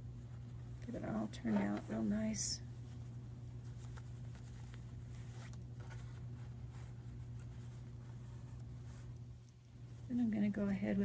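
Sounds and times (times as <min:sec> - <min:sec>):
low room hum: 0:00.0 - 0:11.0
fabric rustling: 0:00.1 - 0:11.0.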